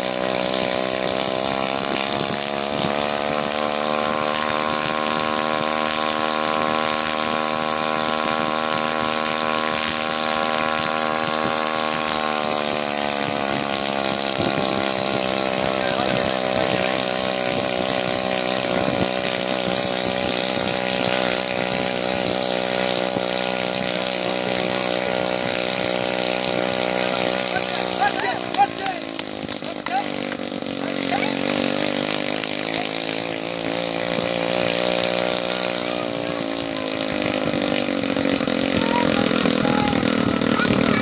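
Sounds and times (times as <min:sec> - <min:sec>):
helicopter engine running: 0:00.0 - 0:41.0.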